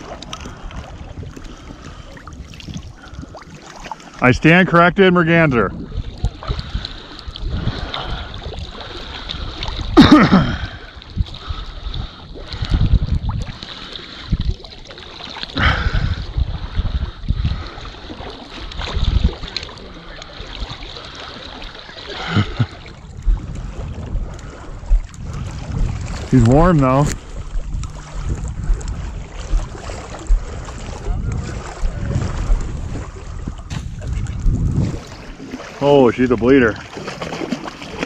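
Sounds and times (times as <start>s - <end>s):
low wind rumble: 0.0s - 38.0s
water splashing around boat: 0.0s - 38.0s.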